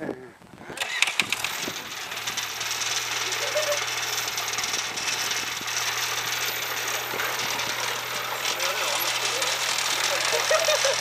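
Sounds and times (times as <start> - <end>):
buggy engine rattling under load: 0.8 - 11.0.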